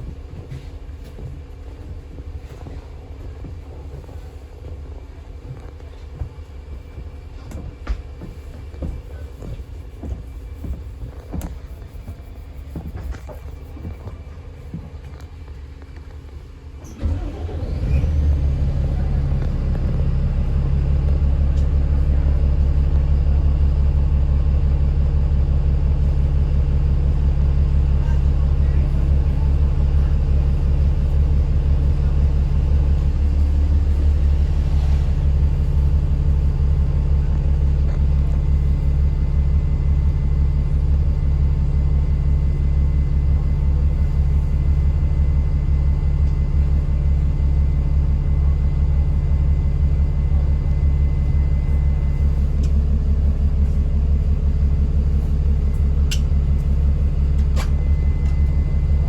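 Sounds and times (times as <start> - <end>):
bus engine droning: 0.0 - 59.0.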